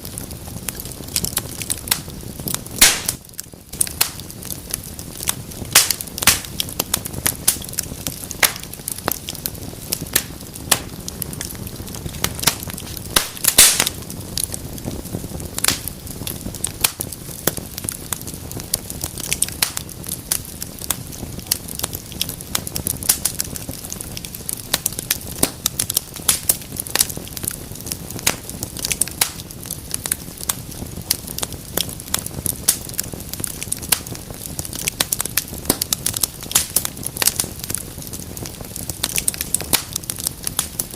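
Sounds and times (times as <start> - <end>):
fire crackling and popping: 0.0 - 40.9
low rumble of flame: 0.0 - 40.9.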